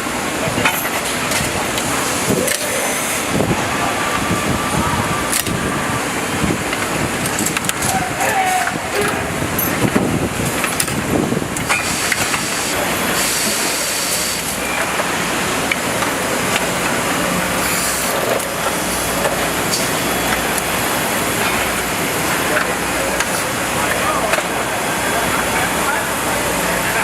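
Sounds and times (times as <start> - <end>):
factory machinery hiss and rumble: 0.0 - 27.0.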